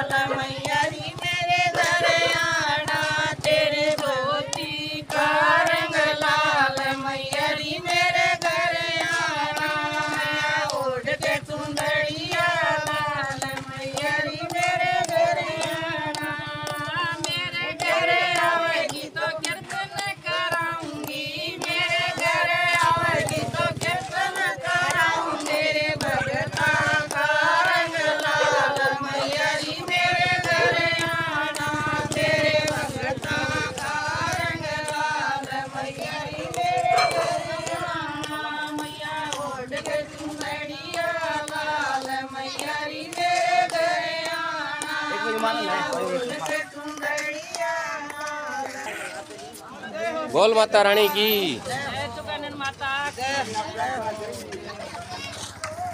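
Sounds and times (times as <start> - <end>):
hands clapping in time: 0.0 - 49.6, 50.9 - 55.9
women singing devotional song: 0.0 - 55.9.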